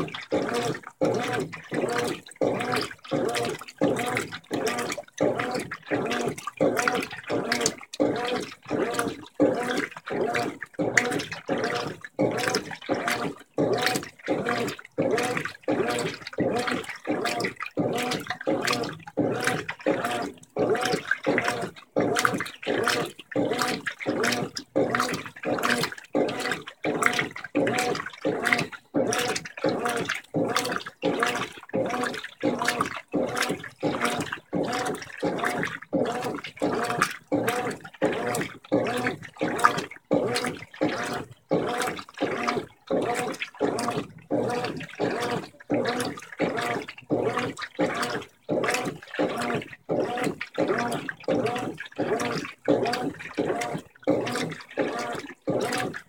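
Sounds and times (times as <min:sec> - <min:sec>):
washing machine water sloshing: 0:00.0 - 0:56.0.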